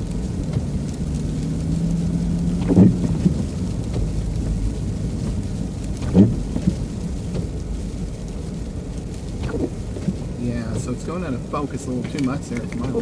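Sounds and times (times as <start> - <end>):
freezing rain: 0.0 - 13.0
truck rumble from inside cab: 0.0 - 13.0
windshield wipers thumping: 0.0 - 13.0.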